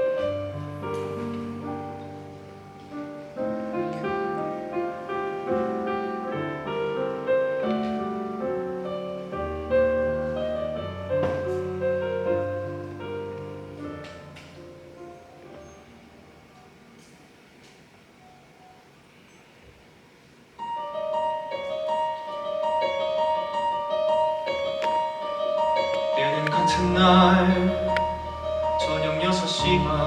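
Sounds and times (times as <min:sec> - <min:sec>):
piano playing slow chords: 0:00.0 - 0:18.8, 0:20.6 - 0:30.0.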